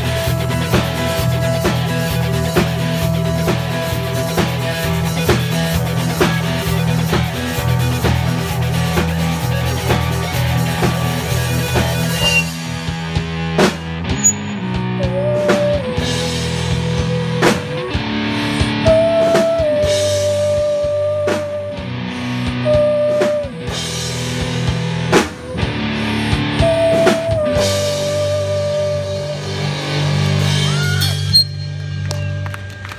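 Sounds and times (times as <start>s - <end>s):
rock band playing: 0.0s - 32.9s
sliding guitar lead line: 0.0s - 32.9s.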